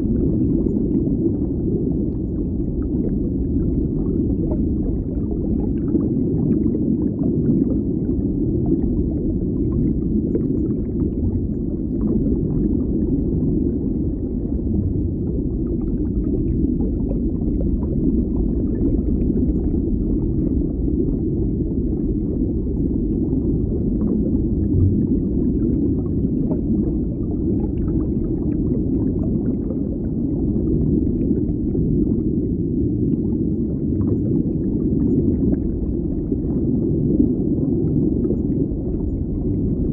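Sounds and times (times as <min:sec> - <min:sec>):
crackling and gurgling: 0:00.0 - 0:39.9
muffled underwater rumble: 0:00.0 - 0:39.9.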